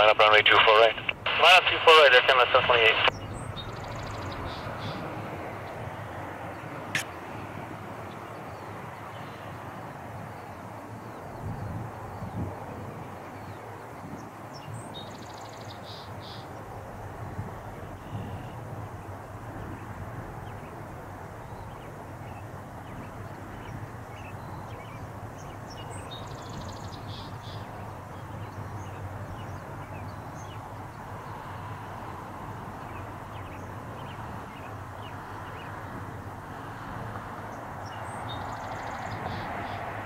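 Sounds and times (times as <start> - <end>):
distant jet engine: 0.0 - 40.0.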